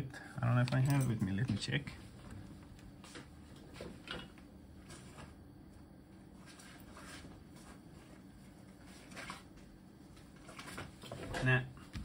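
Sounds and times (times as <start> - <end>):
low steady background hum: 0.0 - 12.0.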